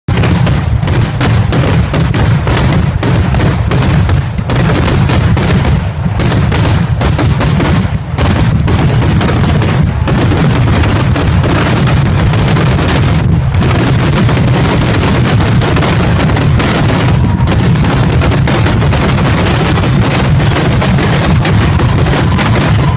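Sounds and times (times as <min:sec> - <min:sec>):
fireworks barrage crackling: 0:00.0 - 0:22.9.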